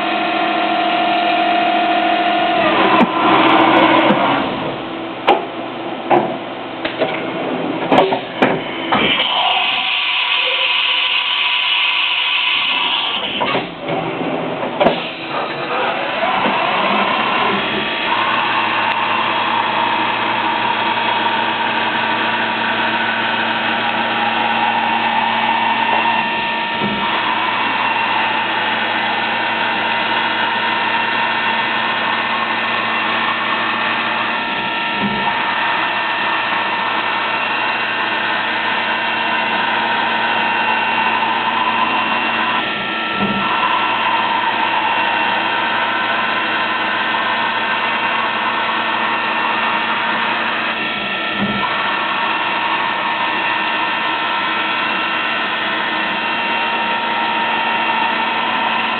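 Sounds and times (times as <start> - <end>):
mill spindle and cutting: 0.0 - 58.9.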